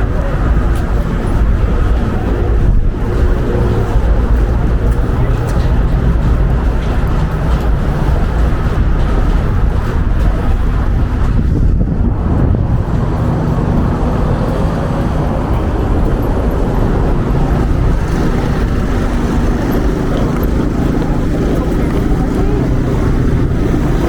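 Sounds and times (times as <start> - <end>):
faint engine hum: 0.0 - 24.0
street traffic: 0.0 - 24.0
wind rumbling on microphone: 0.0 - 24.0.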